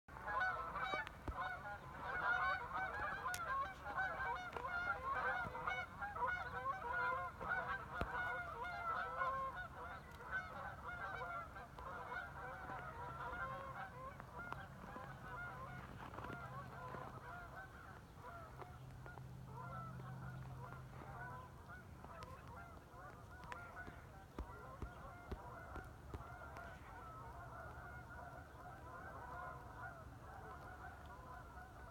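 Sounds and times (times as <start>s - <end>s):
geese honking: 0.1s - 31.9s.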